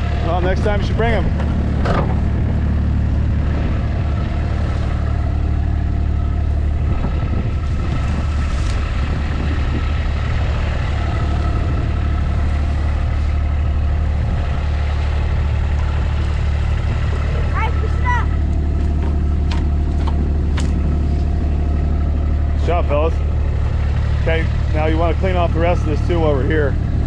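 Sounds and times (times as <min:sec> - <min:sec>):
vehicle engine low hum: 0:00.0 - 0:27.0.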